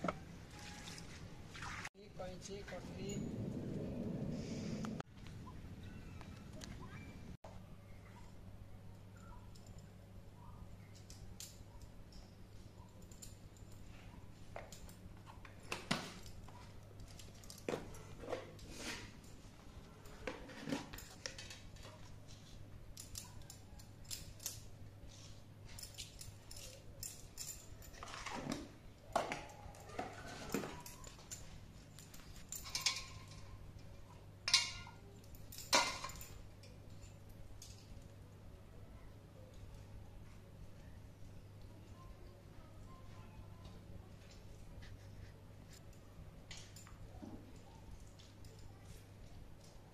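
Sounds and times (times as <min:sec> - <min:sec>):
faint low hum: 0:00.0 - 0:49.9.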